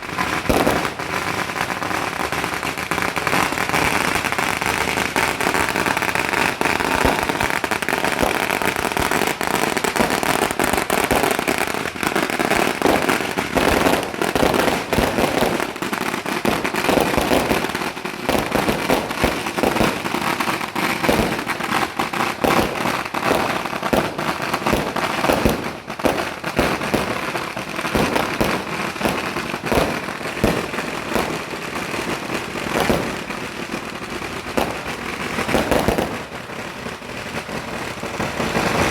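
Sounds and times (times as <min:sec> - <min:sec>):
firecrackers crackling and banging: 0:00.0 - 0:38.9.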